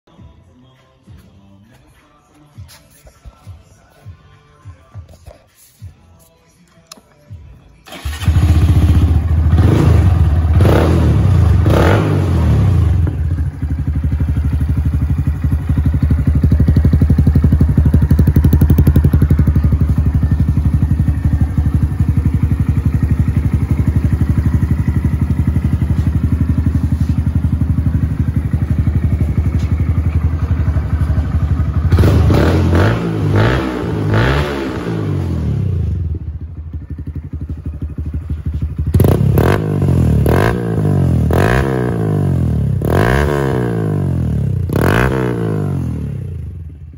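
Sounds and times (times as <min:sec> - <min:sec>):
motorcycle engine idling and revving: 0:07.2 - 0:46.9.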